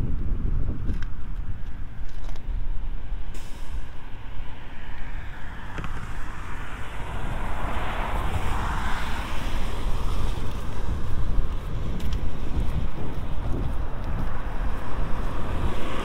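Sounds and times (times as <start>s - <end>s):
wind on microphone: 0.0s - 16.0s
car passing: 3.2s - 16.0s.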